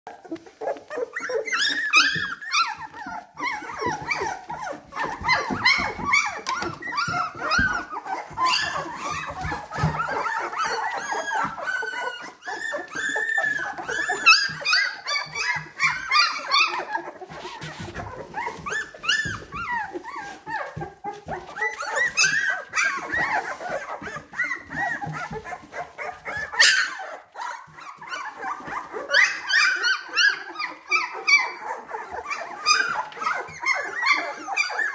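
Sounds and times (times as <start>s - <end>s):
puppies whimpering and yipping: 0.1s - 34.9s.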